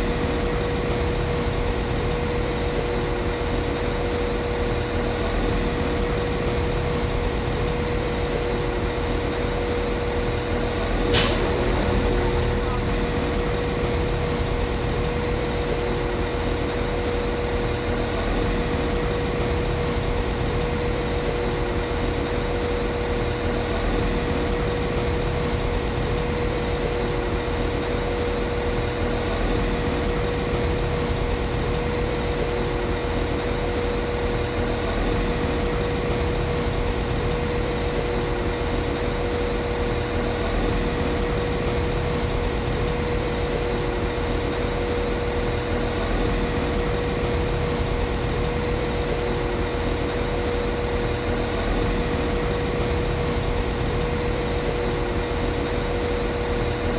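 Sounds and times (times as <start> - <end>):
constant high hum: 0.0 - 56.9.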